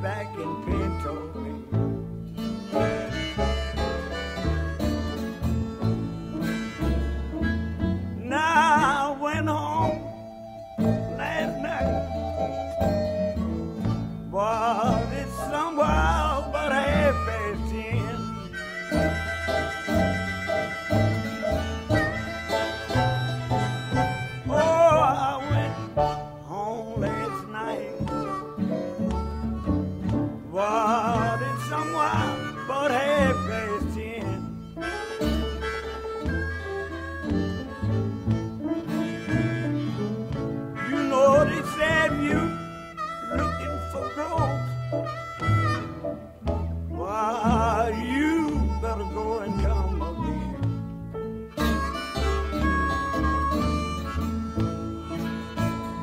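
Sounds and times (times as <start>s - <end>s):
bass: 0.0s - 56.0s
country blues guitar and piano: 0.0s - 56.0s.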